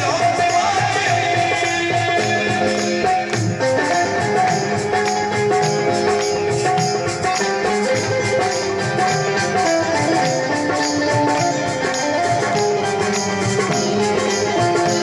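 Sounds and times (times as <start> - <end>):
hand drum beat: 0.0 - 15.0
harmonium melody: 0.0 - 15.0
jingling percussion: 0.0 - 15.0.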